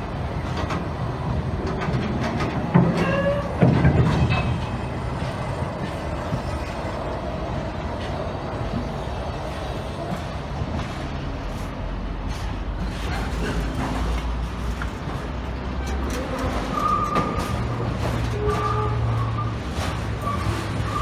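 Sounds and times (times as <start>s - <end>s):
train rumbling with faint whine: 0.0s - 21.0s.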